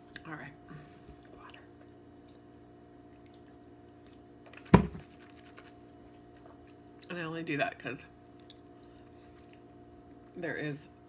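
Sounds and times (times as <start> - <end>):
low appliance hum: 0.0 - 11.0.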